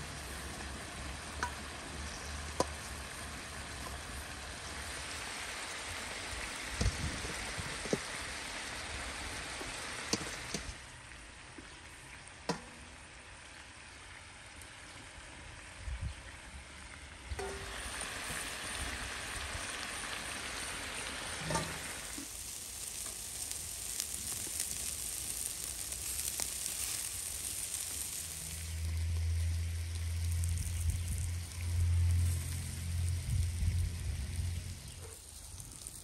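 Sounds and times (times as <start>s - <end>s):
meat sizzling on a grill: 0.0s - 10.8s, 17.4s - 36.0s.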